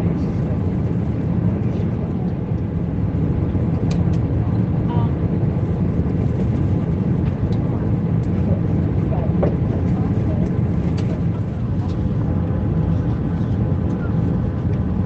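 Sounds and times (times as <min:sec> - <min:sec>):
aircraft engines and airflow rumble: 0:00.0 - 0:15.0.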